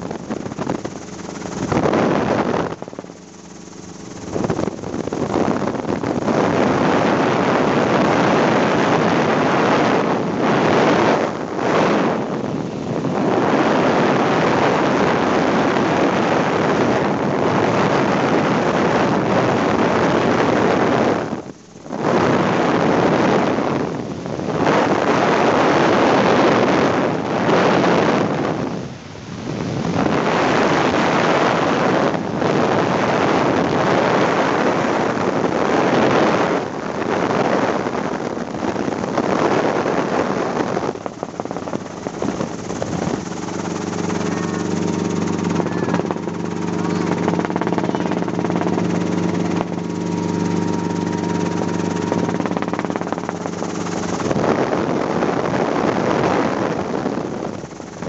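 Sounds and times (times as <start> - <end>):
helicopter engine and rotor hum: 0.0 - 28.8, 29.6 - 58.0
wind buffeting microphone: 0.0 - 58.0.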